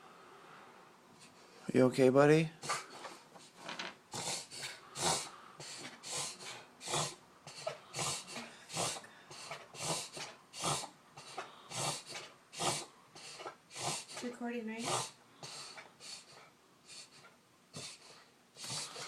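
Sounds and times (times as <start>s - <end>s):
dog rasping breaths: 2.6s - 19.0s.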